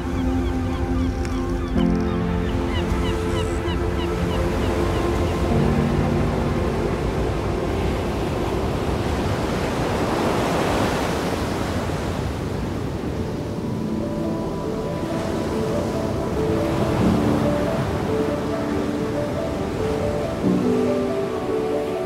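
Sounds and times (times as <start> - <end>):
ocean wave rushing in: 2.4 - 22.0.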